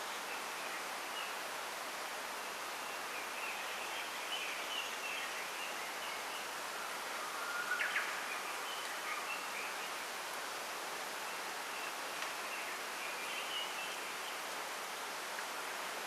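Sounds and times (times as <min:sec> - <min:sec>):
wind rustling through bamboo: 0:00.0 - 0:16.0.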